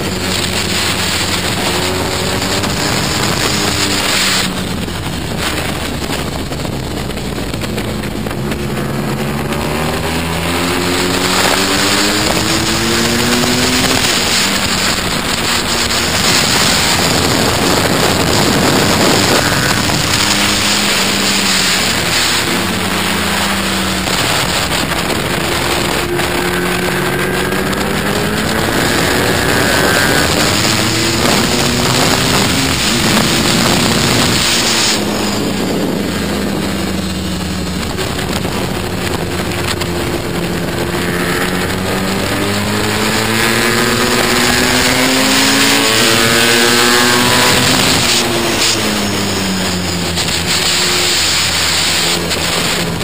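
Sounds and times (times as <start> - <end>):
motorcycle engine revving: 0.0 - 53.0
wind rushing over microphone: 0.0 - 53.0.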